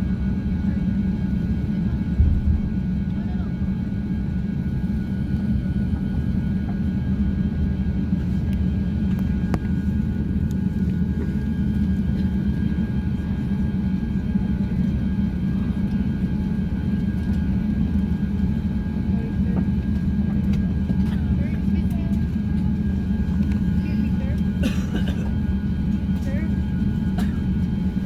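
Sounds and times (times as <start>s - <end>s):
low cabin rumble: 0.0s - 28.0s.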